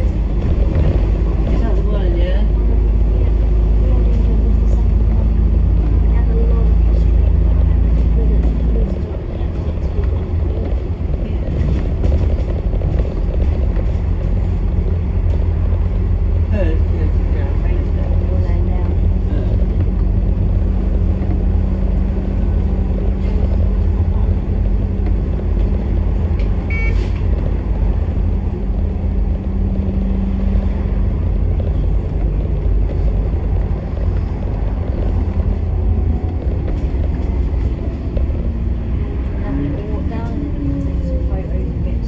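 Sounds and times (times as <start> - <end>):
bus engine humming: 0.0 - 42.0
road rumble: 0.0 - 42.0.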